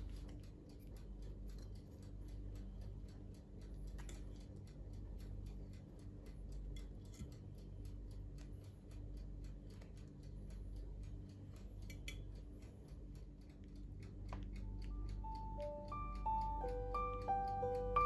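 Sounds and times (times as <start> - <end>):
clock ticking: 0.0 - 18.0
low room hum: 0.0 - 18.0.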